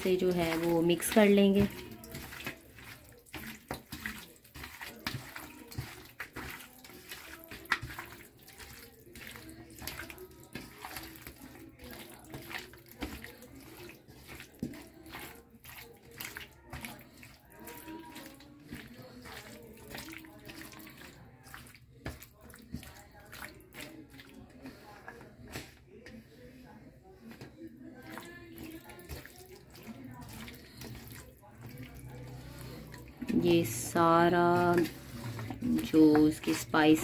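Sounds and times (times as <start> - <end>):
hand squelching wet meat: 0.0 - 26.4, 27.2 - 37.0.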